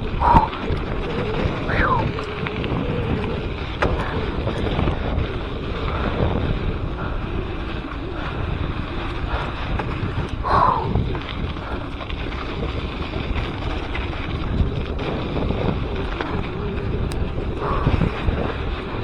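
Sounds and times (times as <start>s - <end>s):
bike clicks and rattles: 0.0s - 19.0s
bike tyres rumbling on dirt: 0.0s - 19.0s
wind buffeting microphone: 0.0s - 19.0s.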